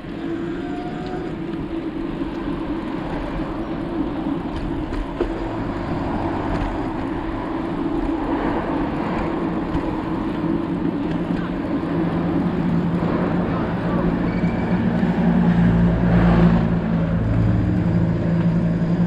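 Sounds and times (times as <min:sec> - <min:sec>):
bicycle ride rush: 0:00.0 - 0:19.0
low hum: 0:00.0 - 0:19.0.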